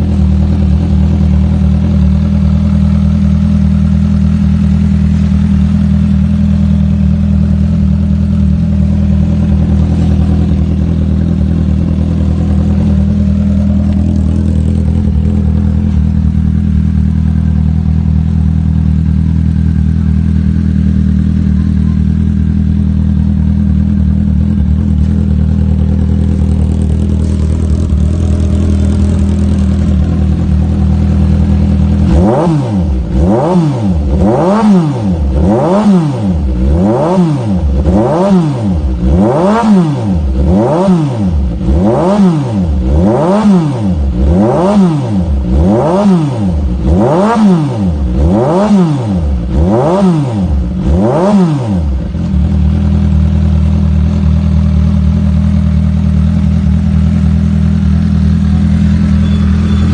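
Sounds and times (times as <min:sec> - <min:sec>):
engine revving: 0:00.0 - 0:59.9
motorcycle engine idling: 0:00.0 - 0:59.9.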